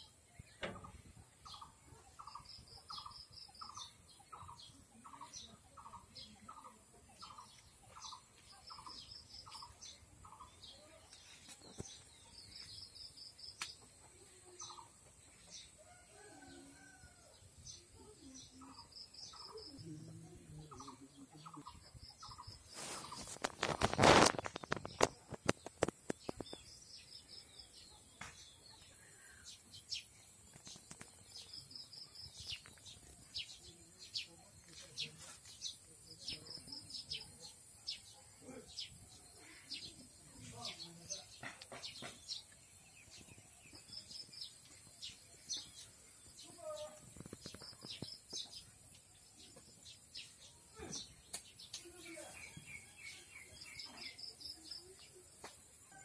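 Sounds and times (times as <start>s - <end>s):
birds chirping and trilling: 0.0s - 17.1s, 17.7s - 55.3s.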